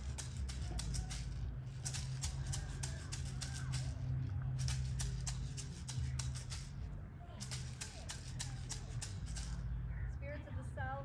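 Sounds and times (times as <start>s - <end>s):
hand shakers rattling: 0.0s - 9.8s
steady low drone: 0.0s - 11.0s.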